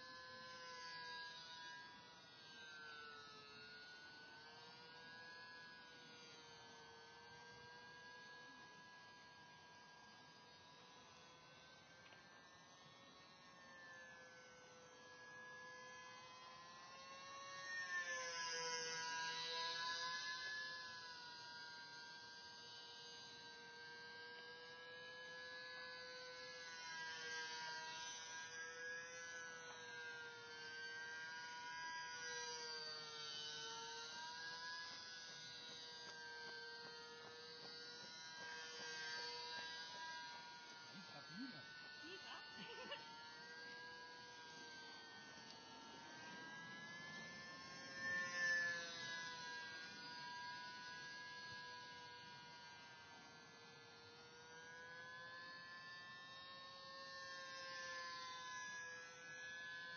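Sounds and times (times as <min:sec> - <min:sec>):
model plane motor whine: 0:00.0 - 0:59.9.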